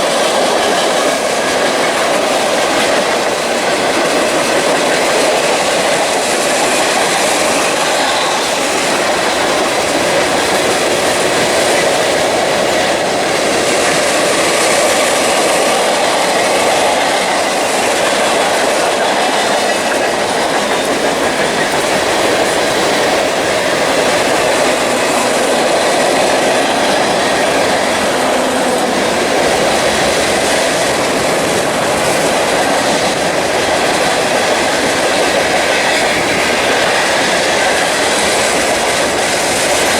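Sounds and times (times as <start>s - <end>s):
train wheels clacking on rail joints: 0.0s - 39.9s.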